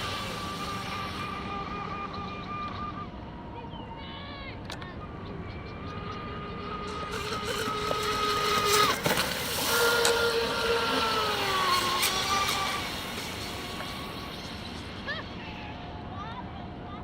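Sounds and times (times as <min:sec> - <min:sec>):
electric boat motor whining: 0:00.0 - 0:03.5, 0:04.7 - 0:16.0.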